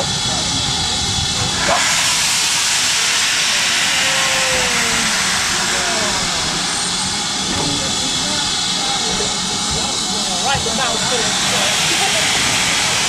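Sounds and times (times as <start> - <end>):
loud steam hiss: 0.0 - 13.0.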